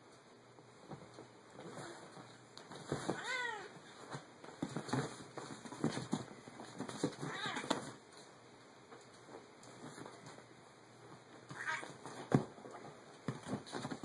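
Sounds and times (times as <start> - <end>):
scuffling and thumps: 0.7 - 8.3, 8.9 - 14.0.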